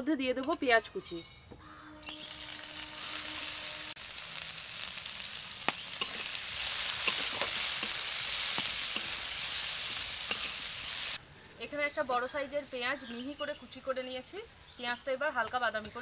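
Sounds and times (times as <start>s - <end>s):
onion sizzling in oil: 1.9s - 16.0s.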